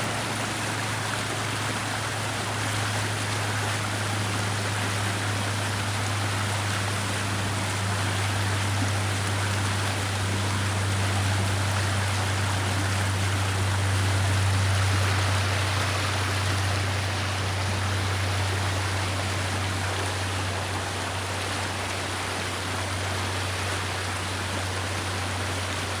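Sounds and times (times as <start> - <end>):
brook water running: 0.0 - 26.0.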